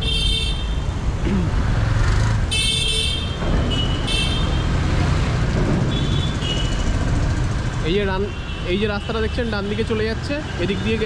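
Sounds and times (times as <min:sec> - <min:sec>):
vehicle engines running: 0:01.0 - 0:02.5, 0:03.3 - 0:11.0.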